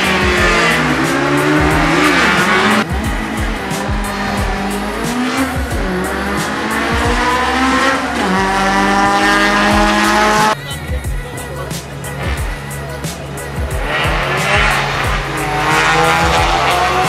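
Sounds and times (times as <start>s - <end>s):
car engine revving: 0.0s - 17.0s
tyres squealing: 0.0s - 17.0s.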